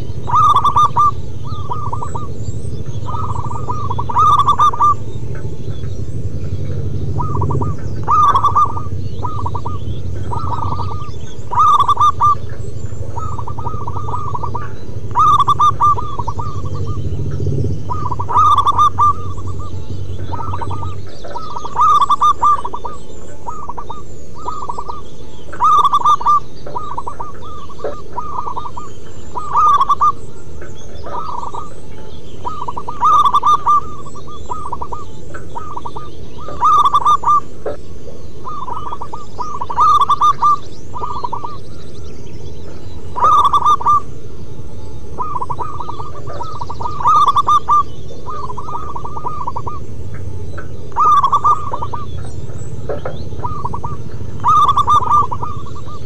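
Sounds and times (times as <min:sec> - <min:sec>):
doves cooing: 0:00.0 - 0:56.0
low background noise: 0:00.0 - 0:56.0.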